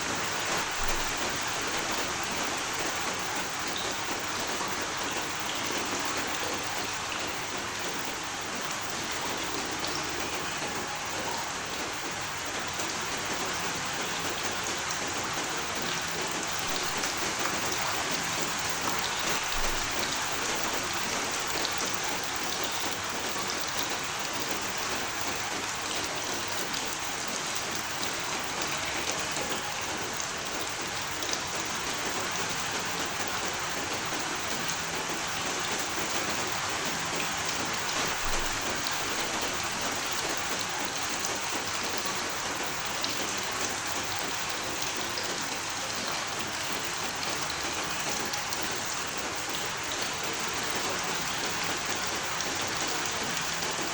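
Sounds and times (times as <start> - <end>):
rain pattering on surface: 0.0 - 53.9.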